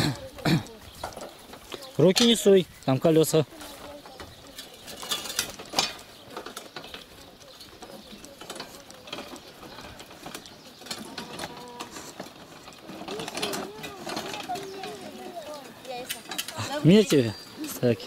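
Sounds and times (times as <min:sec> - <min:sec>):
handcart wheels rattling on dirt: 0:00.0 - 0:18.0.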